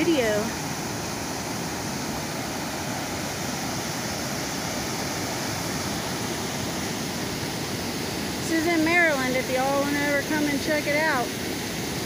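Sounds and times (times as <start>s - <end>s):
whitewater rushing over falls: 0.0s - 12.0s.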